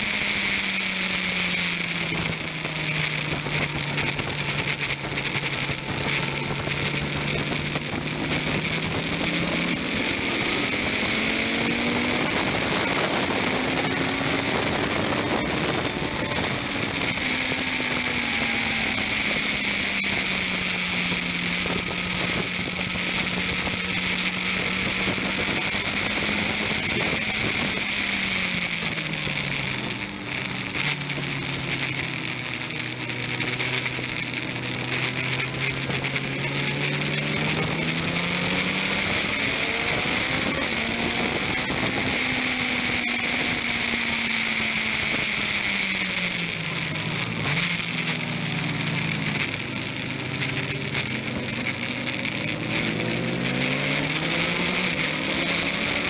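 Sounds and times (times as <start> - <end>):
racing motorcycle engine accelerating: 0.0 - 56.0.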